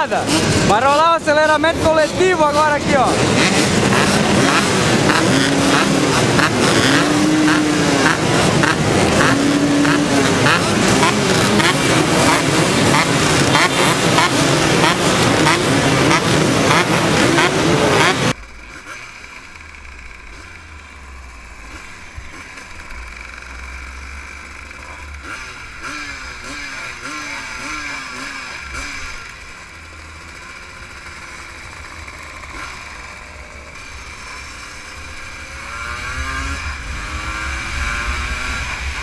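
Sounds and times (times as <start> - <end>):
engine revving: 0.0 - 39.0
motorcycle engines: 0.0 - 39.0.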